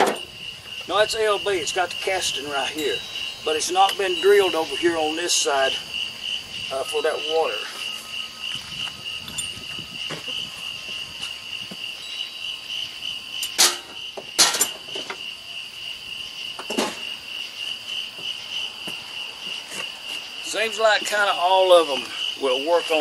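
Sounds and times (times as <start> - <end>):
high pulsing insect chorus: 0.0 - 23.0.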